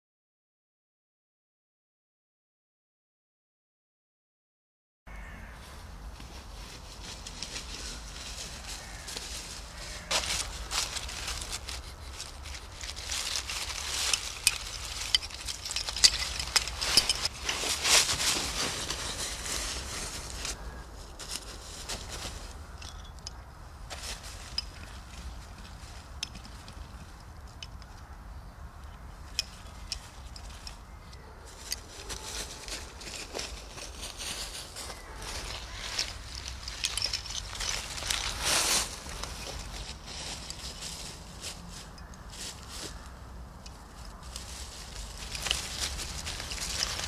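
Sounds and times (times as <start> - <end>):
dry leaves crackling and rustling: 5.6 - 27.6, 29.2 - 47.0.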